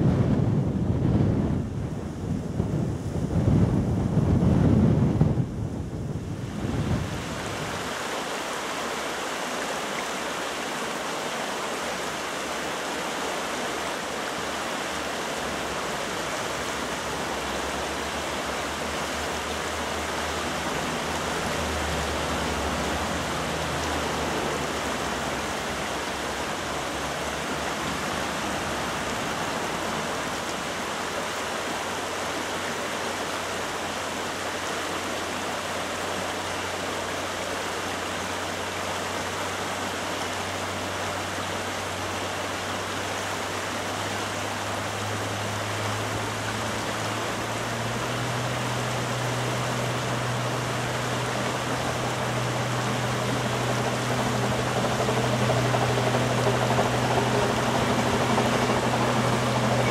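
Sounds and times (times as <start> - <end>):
river rapids rushing over boulders: 5.8 - 59.9.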